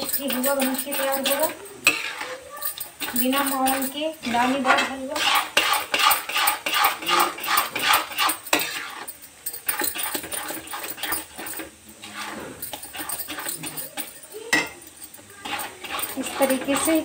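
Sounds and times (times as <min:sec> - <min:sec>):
spatula scraping metal pan: 0:00.0 - 0:17.0.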